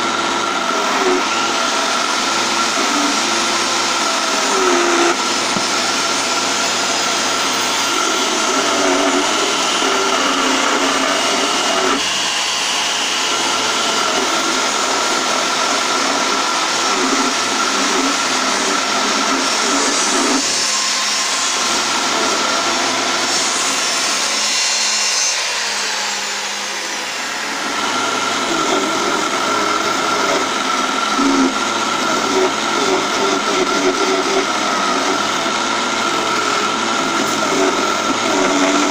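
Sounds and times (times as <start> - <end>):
lathe motor whine: 0.0 - 38.9
turning tool scraping wood: 0.5 - 26.2, 27.2 - 38.9.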